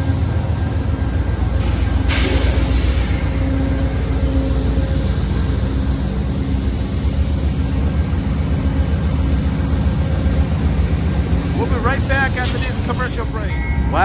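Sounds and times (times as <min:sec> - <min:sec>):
diesel locomotives idling: 0:00.0 - 0:14.0.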